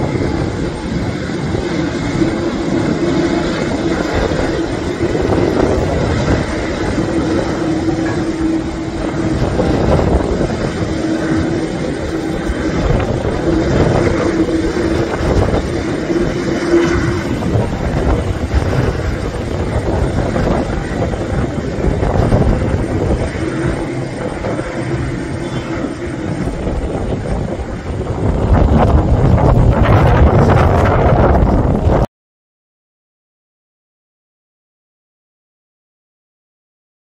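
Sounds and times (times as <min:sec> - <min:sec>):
jet engines rumbling: 0:00.0 - 0:32.1
wind buffeting microphone: 0:00.0 - 0:32.1.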